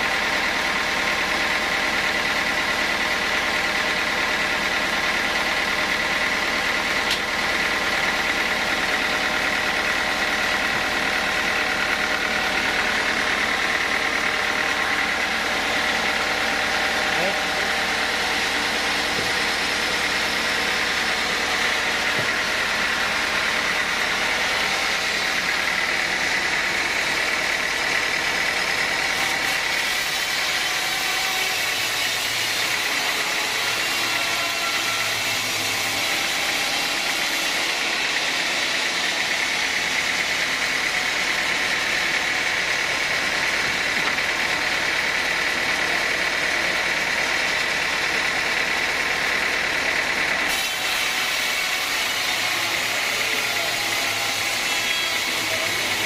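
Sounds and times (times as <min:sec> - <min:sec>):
saw blade whine in wood: 0:00.0 - 0:56.0
sawmill machine noise: 0:00.0 - 0:56.0.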